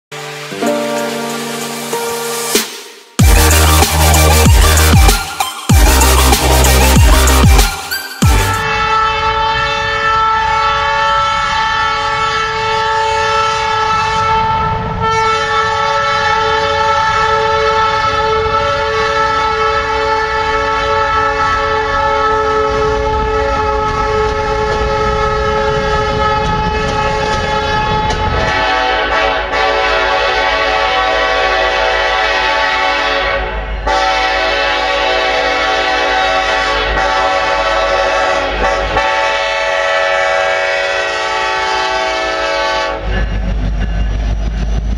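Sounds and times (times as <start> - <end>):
train engine and wheels rumbling: 0.1 - 44.9
locomotive air horns: 5.8 - 43.9.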